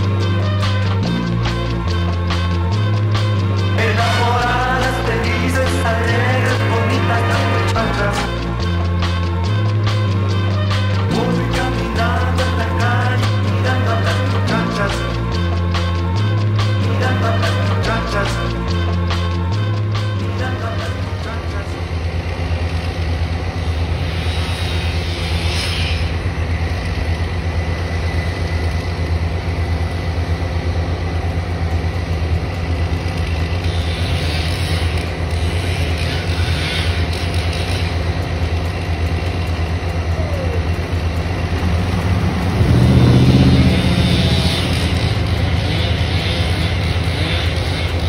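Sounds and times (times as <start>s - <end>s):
heavy machinery engine idling: 0.0s - 48.0s.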